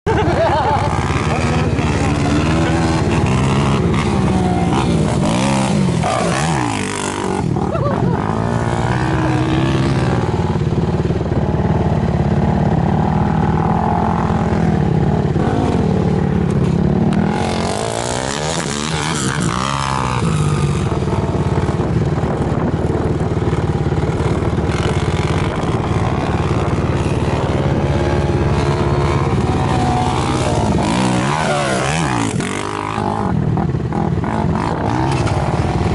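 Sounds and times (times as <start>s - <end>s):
quad engine revving hard: 0.1s - 35.9s.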